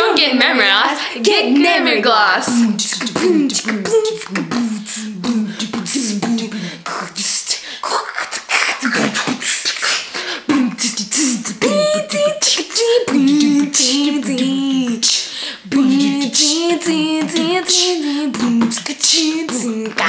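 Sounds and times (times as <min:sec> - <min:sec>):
beatboxing mouth percussion: 0:02.4 - 0:20.0
person singing wordless melody: 0:02.4 - 0:20.0.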